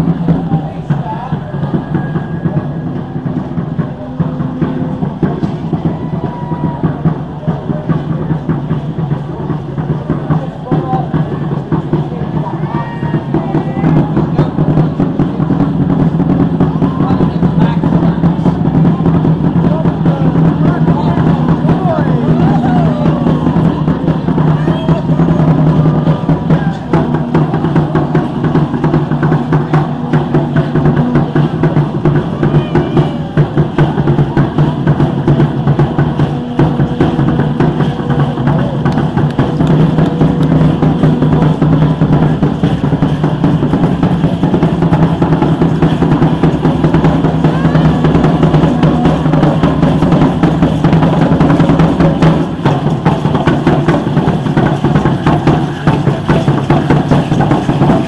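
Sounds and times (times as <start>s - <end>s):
fast deep drumming: 0.0s - 58.0s.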